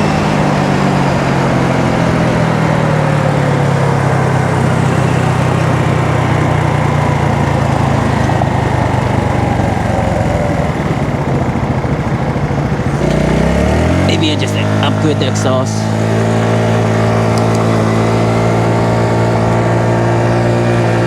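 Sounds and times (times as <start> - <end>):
small motorcycle engine running: 0.0 - 21.0
wind and road noise: 0.0 - 21.0.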